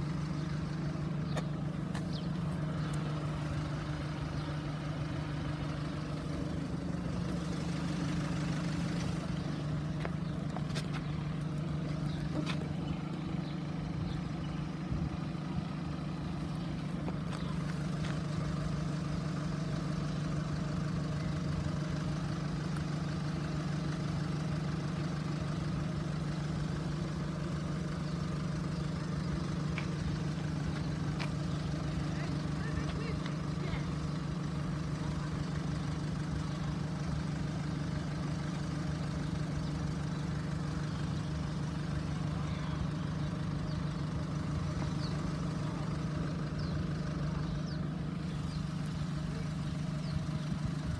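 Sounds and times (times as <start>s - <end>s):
vehicle engine idling: 0.0s - 50.9s.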